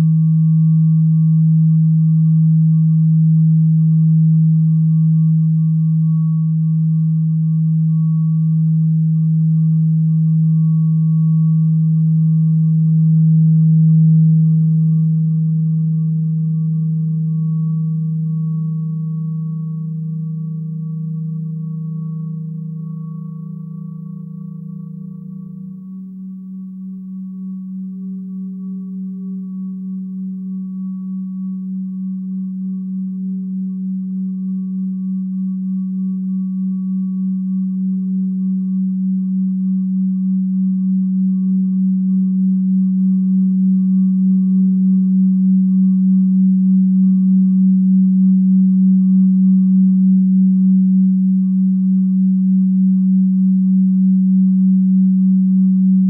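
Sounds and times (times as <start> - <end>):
low sustained drone tone: 0.0 - 56.0.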